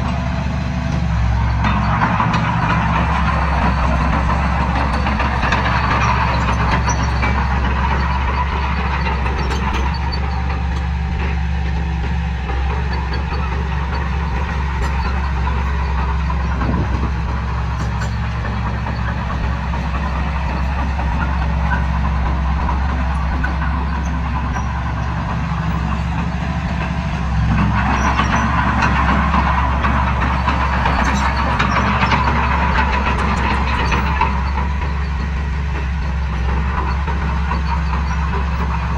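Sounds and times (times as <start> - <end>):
diesel machine engine running: 0.0 - 38.9.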